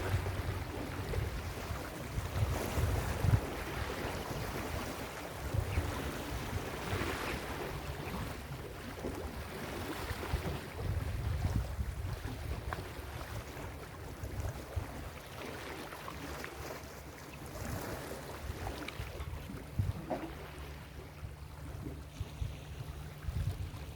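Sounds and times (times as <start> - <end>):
wind on microphone: 0.0 - 15.2, 17.5 - 23.9.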